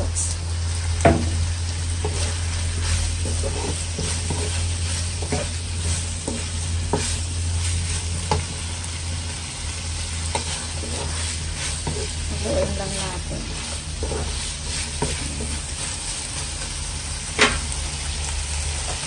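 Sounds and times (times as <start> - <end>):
food sizzling in a wok: 0.0 - 19.0
steady low hum: 0.0 - 19.0.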